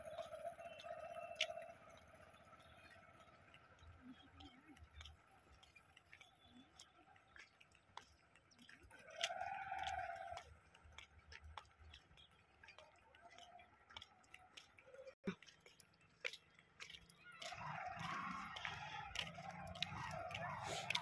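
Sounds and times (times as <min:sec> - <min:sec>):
faint ticks: 0:00.0 - 0:21.0.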